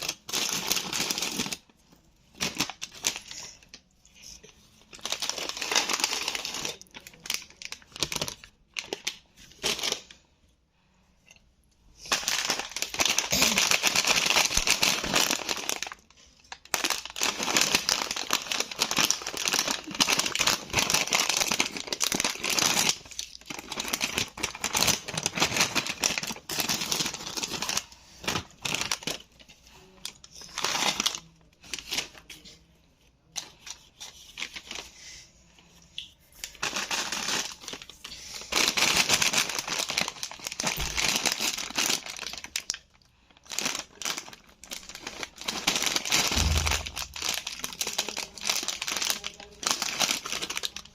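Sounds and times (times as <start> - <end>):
plastic snack packet crinkling: 0.0 - 10.3, 11.9 - 32.4, 36.0 - 50.9.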